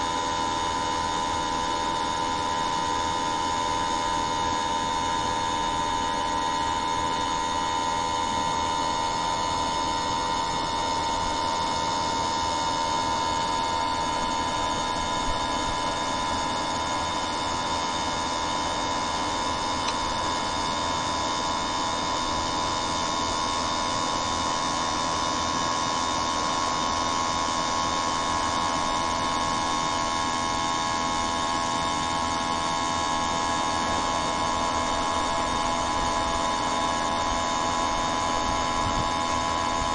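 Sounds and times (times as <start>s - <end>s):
constant high whine: 0.0s - 39.9s
steady hum: 0.0s - 39.9s.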